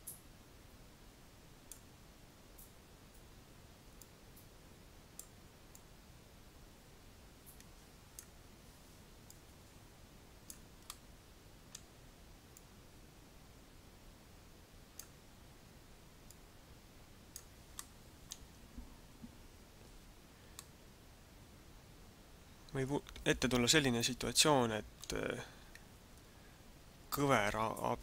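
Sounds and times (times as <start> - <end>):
low room hiss: 0.0 - 28.0.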